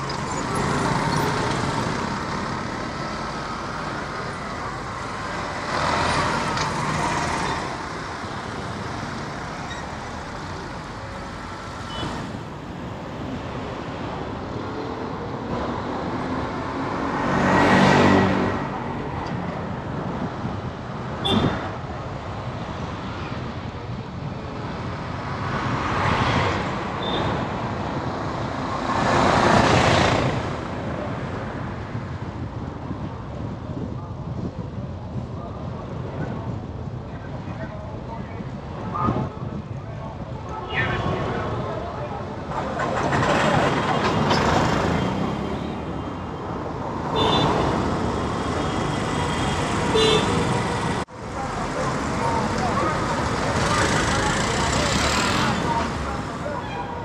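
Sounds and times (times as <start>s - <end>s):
road traffic: 0.0s - 57.0s
vehicles passing: 0.0s - 57.0s.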